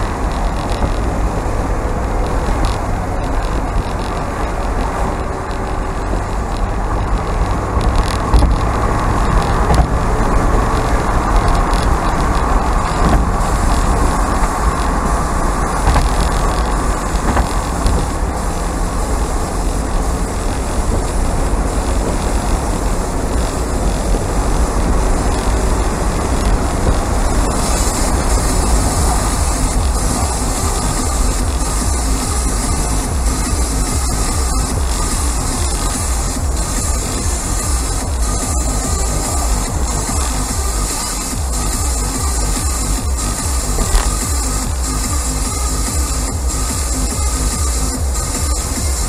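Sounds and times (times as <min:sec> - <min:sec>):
car engine running while driving: 0:00.0 - 0:49.0
road noise: 0:00.0 - 0:49.0.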